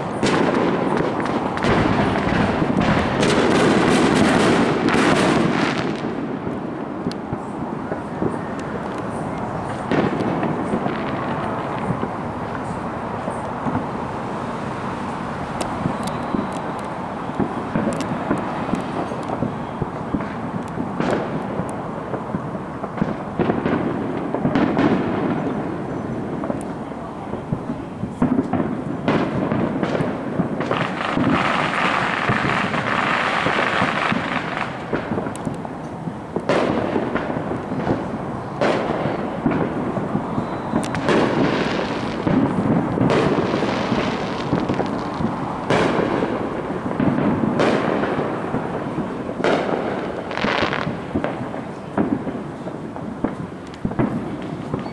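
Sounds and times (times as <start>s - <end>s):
fireworks bangs and booms: 0.0s - 54.9s
fireworks crackling: 0.0s - 54.9s.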